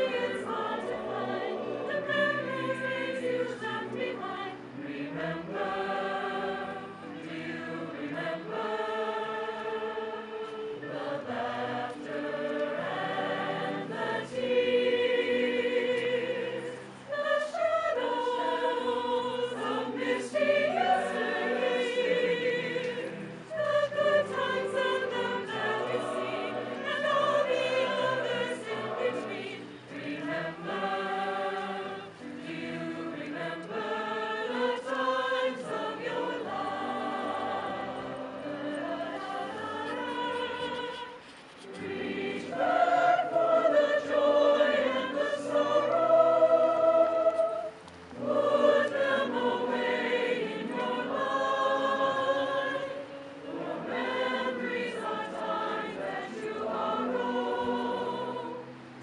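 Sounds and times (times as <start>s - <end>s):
mixed choir singing in harmony: 0.0s - 59.0s.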